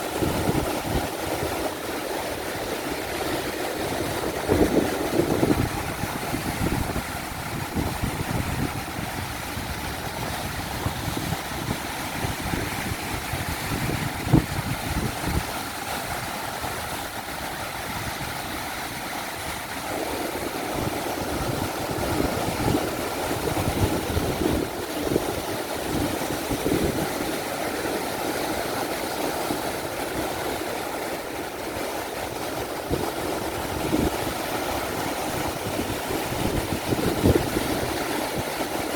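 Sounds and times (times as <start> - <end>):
ocean waves breaking: 0.0 - 38.9
wind buffeting microphone: 0.0 - 38.9.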